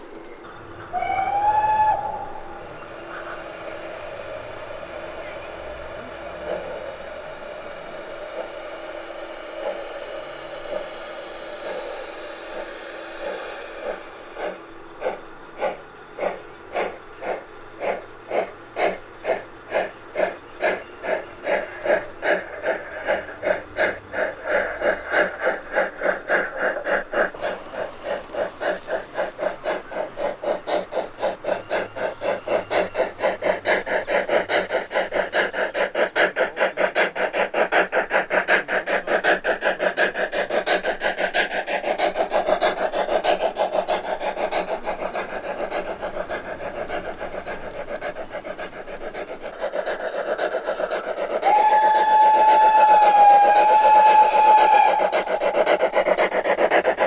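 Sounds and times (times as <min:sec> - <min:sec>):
model steam locomotive chuffing: 0:00.0 - 0:57.0.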